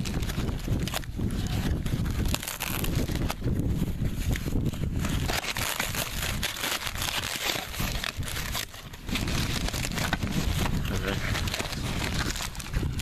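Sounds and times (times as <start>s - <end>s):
packing wrap crinkling: 0.0s - 13.0s.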